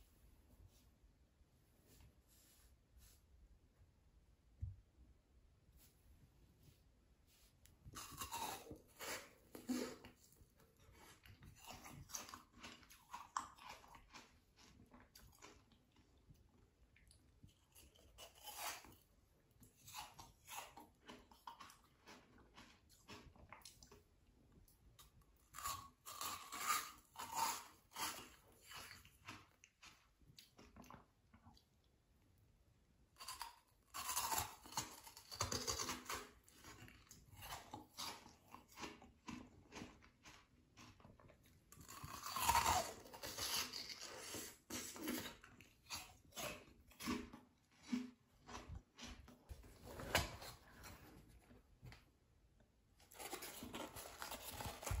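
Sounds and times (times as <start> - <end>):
crunching and chewing ice: 7.9 - 31.7, 33.1 - 51.5, 53.0 - 55.0.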